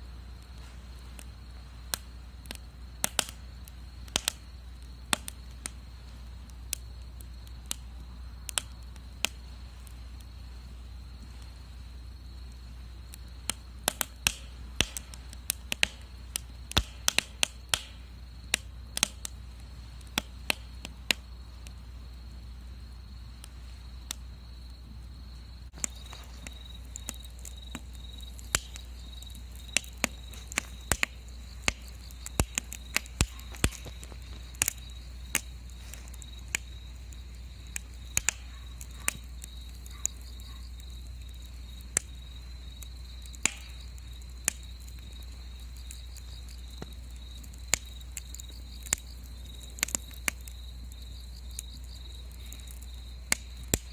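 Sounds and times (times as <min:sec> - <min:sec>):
low fire rumble: 0:00.0 - 0:53.9
wood fire crackling and popping: 0:00.0 - 0:53.9.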